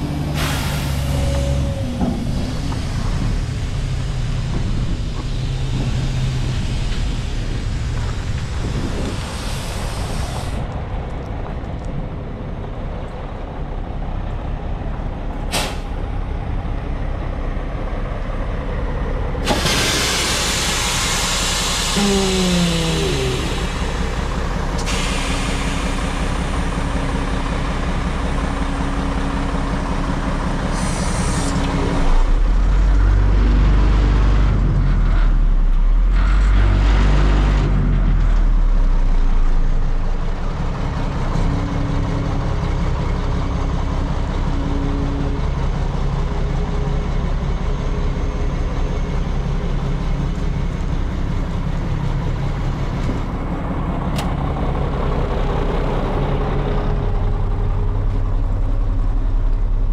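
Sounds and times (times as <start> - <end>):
diesel truck engine idling: 0.0 - 33.3, 37.8 - 59.9.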